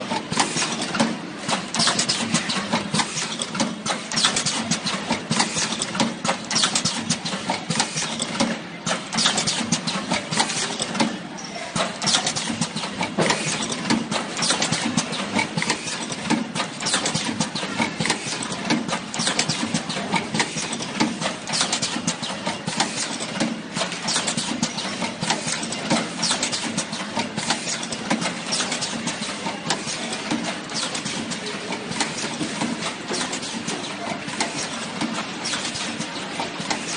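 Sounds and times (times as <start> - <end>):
machine clicking and clattering: 0.0 - 36.9.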